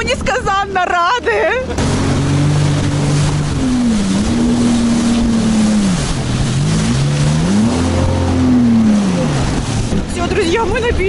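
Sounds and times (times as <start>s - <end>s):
jet ski engine running: 0.0s - 11.0s.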